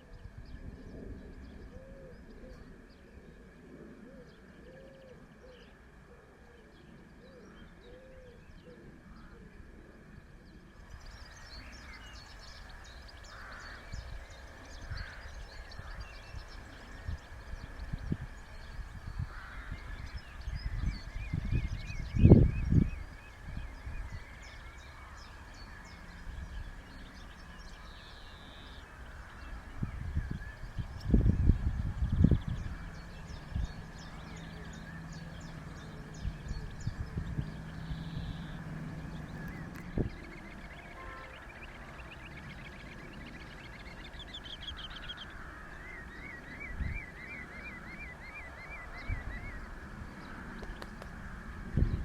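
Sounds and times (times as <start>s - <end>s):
low steady rumble: 0.0s - 47.4s
birds chirping: 0.0s - 52.0s.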